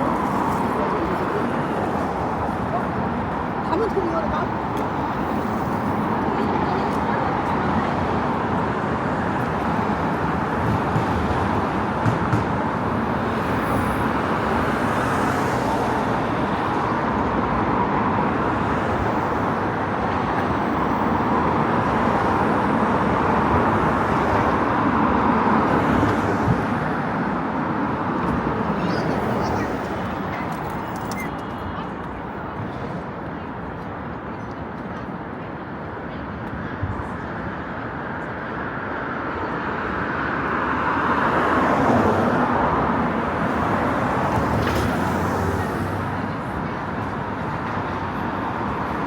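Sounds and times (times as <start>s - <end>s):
road traffic hum: 0.0s - 49.0s.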